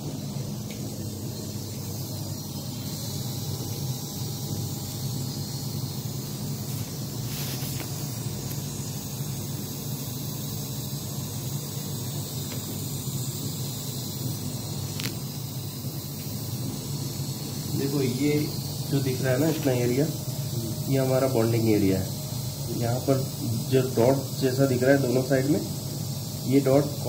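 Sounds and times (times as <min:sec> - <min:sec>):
faint hiss: 0:00.0 - 0:27.0
steady low hum: 0:00.0 - 0:27.0.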